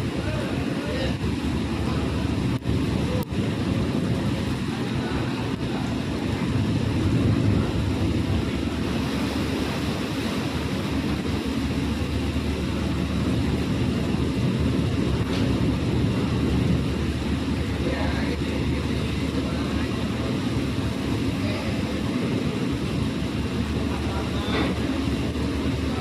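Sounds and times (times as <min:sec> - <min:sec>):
boat engine running: 0:00.0 - 0:26.0
rushing water: 0:00.0 - 0:26.0
wind: 0:00.0 - 0:26.0.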